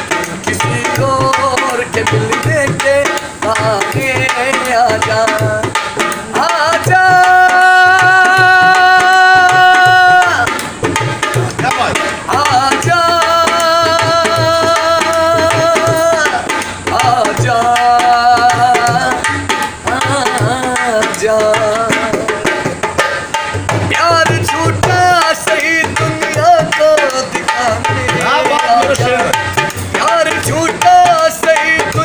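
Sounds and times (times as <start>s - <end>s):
man singing long wordless notes: 0.0s - 22.8s, 23.8s - 32.0s
hand drum rhythm: 0.0s - 32.0s.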